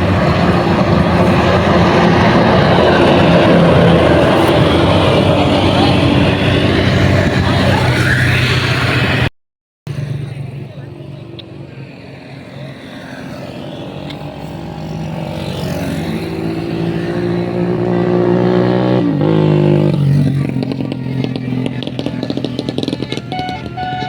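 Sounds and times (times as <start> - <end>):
bus engine running: 0.0 - 9.3, 9.9 - 24.0.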